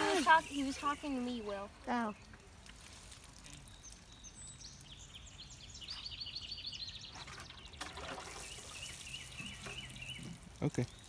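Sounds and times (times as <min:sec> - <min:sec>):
songbird chirping: 0:00.0 - 0:02.5, 0:03.5 - 0:11.0
faint outdoor background noise: 0:00.0 - 0:11.0.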